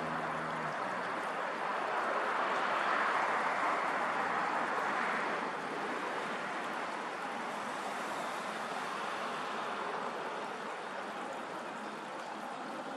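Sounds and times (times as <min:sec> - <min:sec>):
rushing outdoor background noise: 0:00.0 - 0:12.9.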